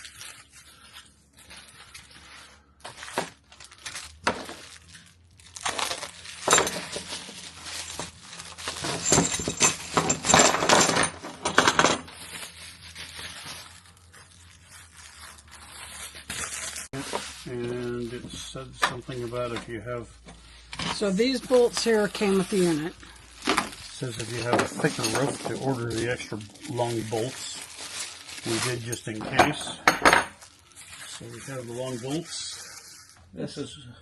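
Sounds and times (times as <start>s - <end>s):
plastic packaging crinkling: 0.0s - 10.0s, 12.0s - 29.7s, 30.3s - 33.3s.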